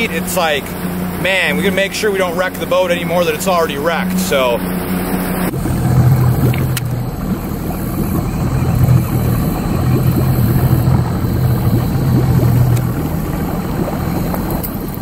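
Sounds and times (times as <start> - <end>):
boat motor humming: 0.0 - 15.0
rough rushing noise: 0.0 - 15.0.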